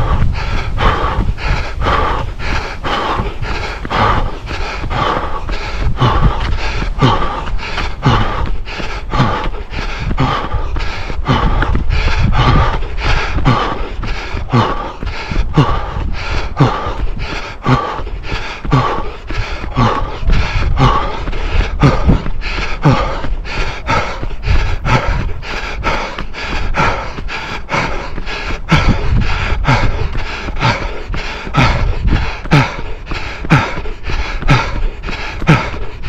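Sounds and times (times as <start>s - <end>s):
footfalls on tarmac: 0.0s - 36.0s
heavy breathing: 0.0s - 36.0s.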